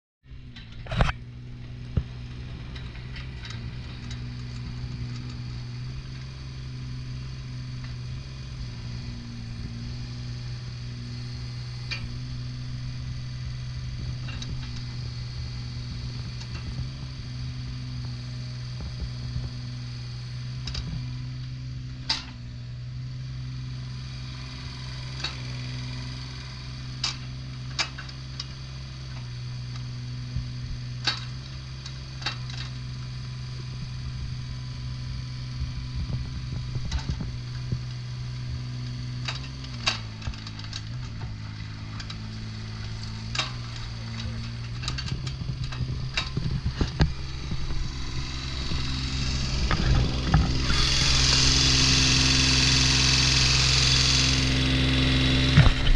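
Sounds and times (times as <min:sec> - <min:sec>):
excavator diesel engine idling: 0:00.4 - 0:55.9.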